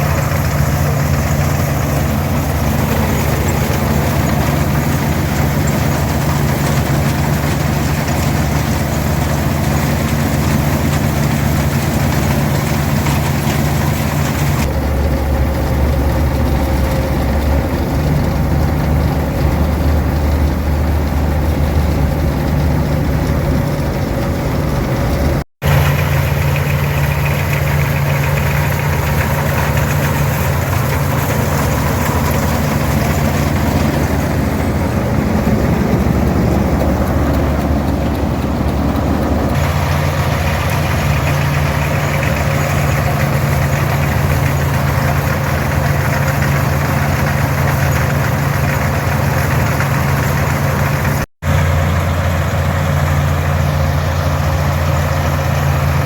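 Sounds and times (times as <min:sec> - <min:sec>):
threshing machinery running: 0:00.0 - 0:56.0
tractor diesel engine running: 0:00.0 - 0:56.0.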